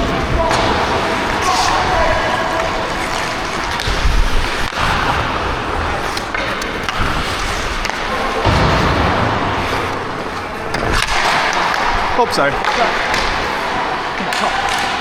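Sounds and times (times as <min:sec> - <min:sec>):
sticks or puck clacking: 0:00.0 - 0:08.9, 0:09.8 - 0:15.0
ice skate blades scraping: 0:00.0 - 0:15.0.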